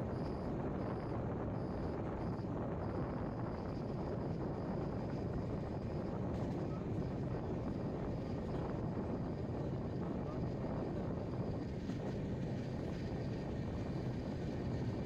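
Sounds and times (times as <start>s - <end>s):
train running noise from on board: 0.0s - 15.0s.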